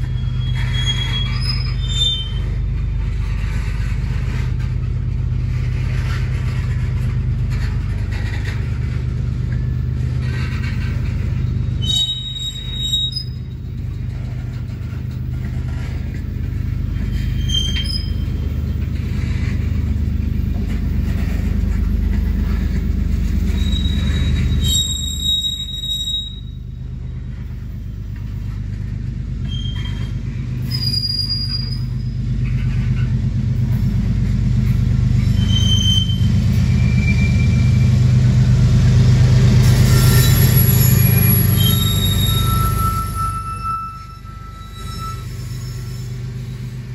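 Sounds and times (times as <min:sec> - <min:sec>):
wheel squeals: 0:00.0 - 0:04.7, 0:05.4 - 0:38.2, 0:39.6 - 0:46.9
freight train rumble: 0:00.0 - 0:46.9.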